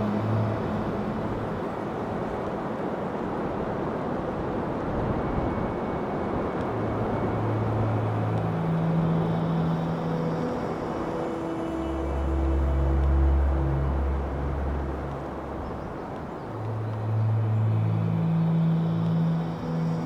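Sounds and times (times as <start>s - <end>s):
blizzard wind blowing: 0.0s - 20.0s.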